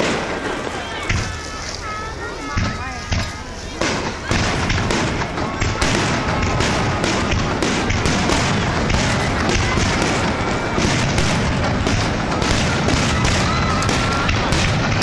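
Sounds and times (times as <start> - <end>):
fireworks booming and cracking: 0.0 - 15.0.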